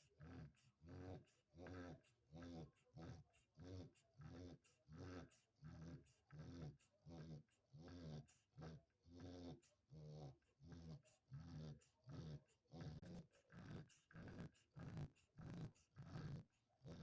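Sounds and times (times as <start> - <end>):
dog snoring: 0.0 - 17.0.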